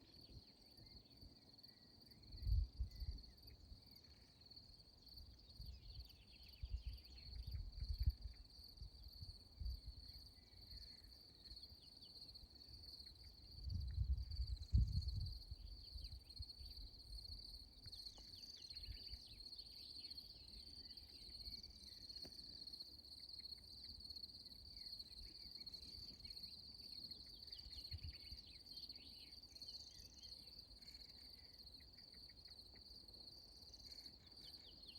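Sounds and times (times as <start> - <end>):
short insect chirps: 0.0 - 34.9
insects trilling: 0.1 - 34.9.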